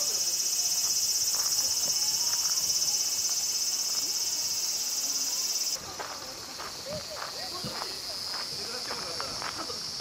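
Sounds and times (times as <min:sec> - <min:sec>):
cicadas buzzing: 0:00.0 - 0:10.0.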